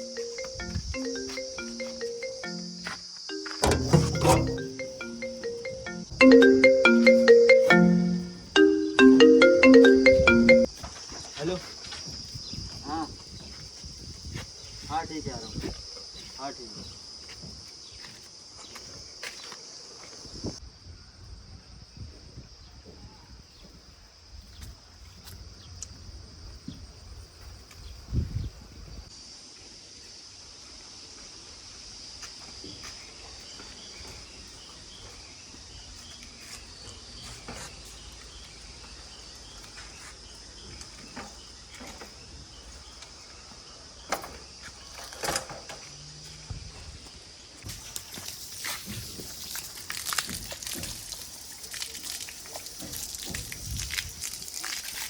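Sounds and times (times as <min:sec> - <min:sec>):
insects chirring: 0:00.0 - 0:20.8, 0:23.5 - 0:55.0.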